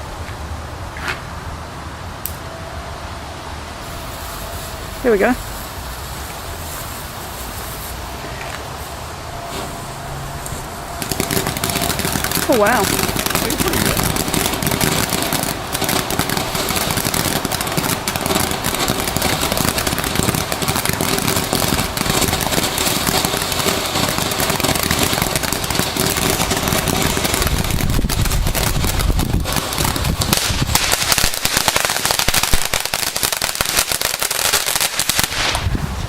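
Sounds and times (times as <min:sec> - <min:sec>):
crackling firework fountain: 0:00.0 - 0:36.0.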